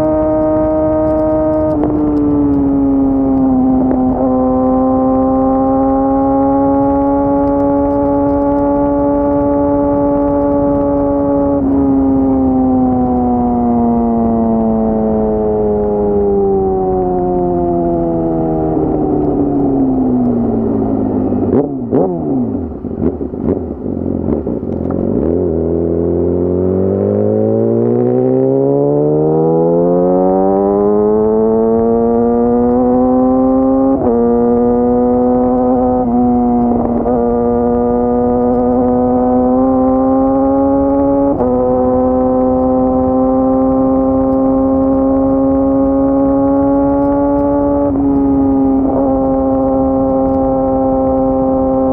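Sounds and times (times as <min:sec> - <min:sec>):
engine blips and pops: 0:00.0 - 0:14.9, 0:17.9 - 0:25.6, 0:31.4 - 0:51.9
motorcycle engine revving: 0:00.0 - 0:51.9.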